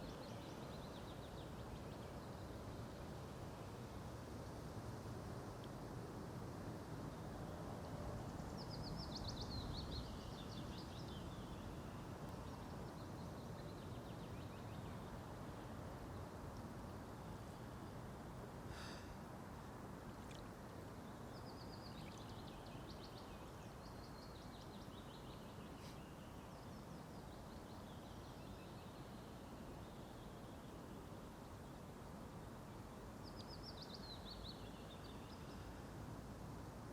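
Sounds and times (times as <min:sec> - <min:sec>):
songbird singing: 0:00.0 - 0:03.9, 0:07.0 - 0:18.1, 0:20.0 - 0:35.9
outdoor background hiss: 0:00.0 - 0:36.9.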